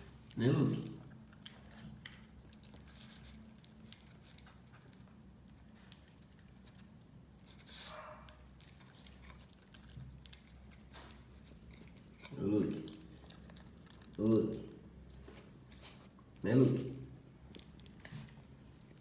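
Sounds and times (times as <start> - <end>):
teeth clicking on food: 0.0 - 7.5, 8.2 - 14.7, 17.0 - 19.0
dog chewing food: 0.0 - 19.0.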